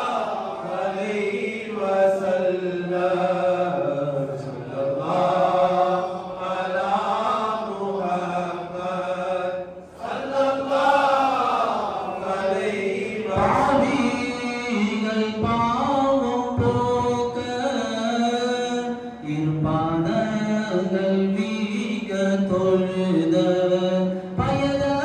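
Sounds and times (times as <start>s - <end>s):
man chanting through microphone: 0.0s - 25.0s.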